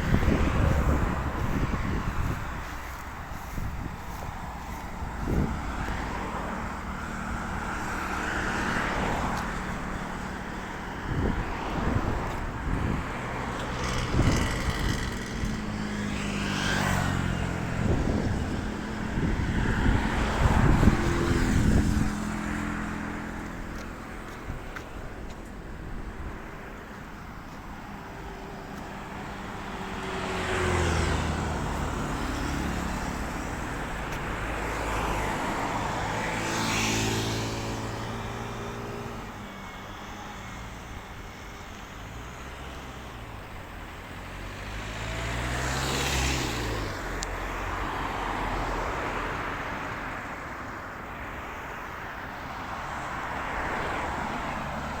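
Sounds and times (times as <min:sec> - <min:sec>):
background traffic hum: 0:00.0 - 0:55.0
cars passing: 0:00.0 - 0:55.0.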